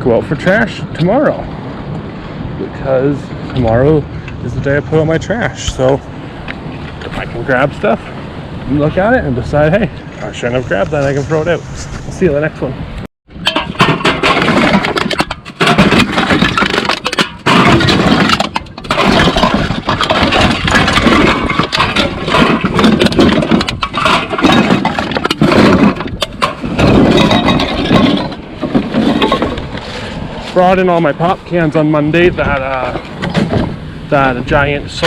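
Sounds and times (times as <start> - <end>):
road noise: 0.0 - 35.0.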